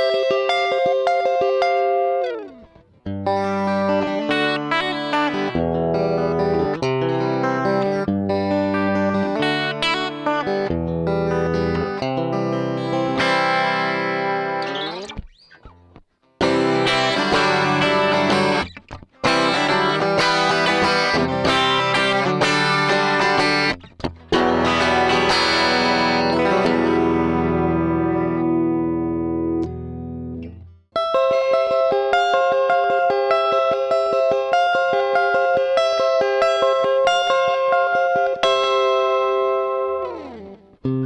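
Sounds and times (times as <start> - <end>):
electric guitar strumming chords: 0.0 - 41.0.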